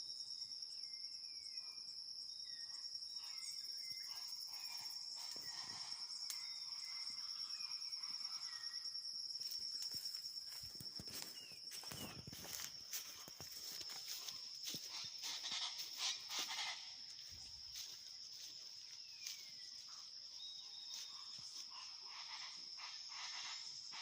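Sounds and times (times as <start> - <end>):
insect trilling: 2.5 - 24.0.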